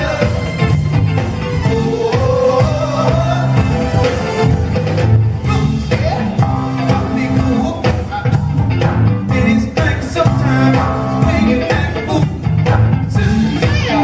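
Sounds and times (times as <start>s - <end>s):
funk band playing: 0.0s - 14.0s.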